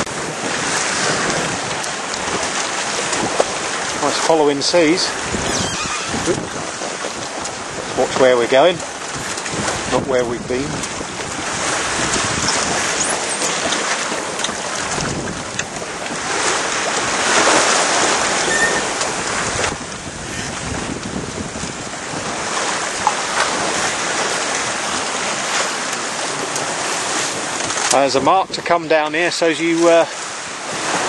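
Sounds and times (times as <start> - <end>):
wind buffeting microphone: 0.0 - 28.7
sea water rushing along hull: 0.0 - 31.0.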